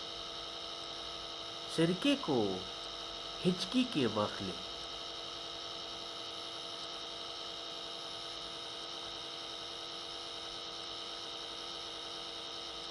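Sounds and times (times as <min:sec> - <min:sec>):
steady hum: 0:00.0 - 0:12.9.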